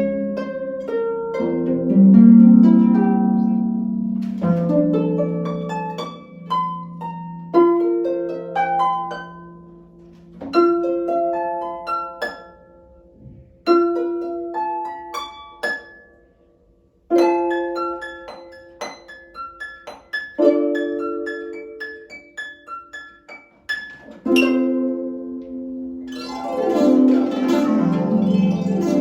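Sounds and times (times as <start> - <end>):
harp playing classical piece: 0.0 - 29.0.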